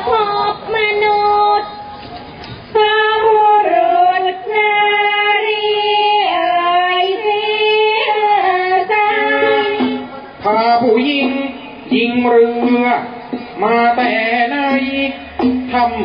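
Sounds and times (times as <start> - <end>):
woman singing long sliding notes: 2.8 - 16.0.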